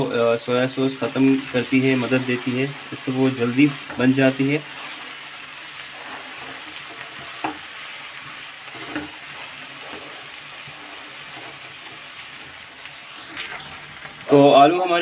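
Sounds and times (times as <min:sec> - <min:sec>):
okra sizzling in oil: 0:00.0 - 0:15.0
spatula stirring: 0:00.6 - 0:14.4.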